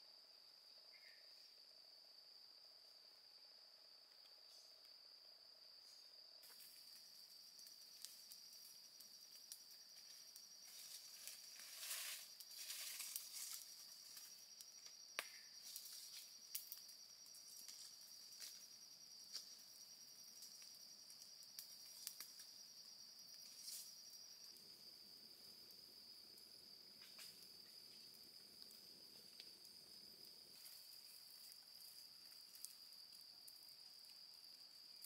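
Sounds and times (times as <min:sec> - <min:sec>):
insects trilling: 0:00.4 - 0:35.0.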